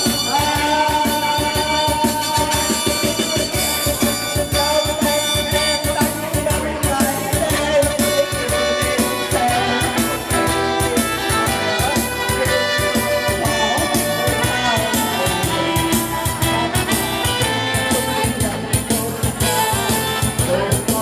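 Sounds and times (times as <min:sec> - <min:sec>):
karaoke backing music over speaker: 0:00.0 - 0:21.0.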